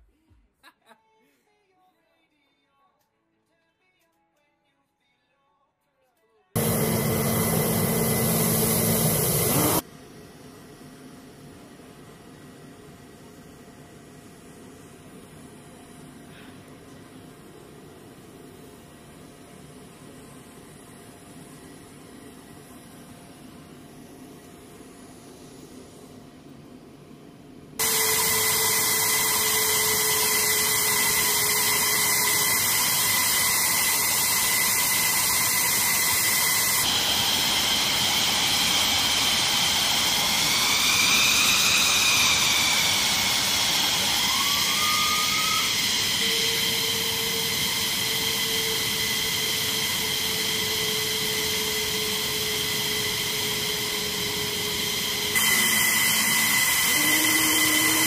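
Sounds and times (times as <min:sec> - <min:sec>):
jet engine turbine whine: 0:06.6 - 0:27.2, 0:27.8 - 0:58.0.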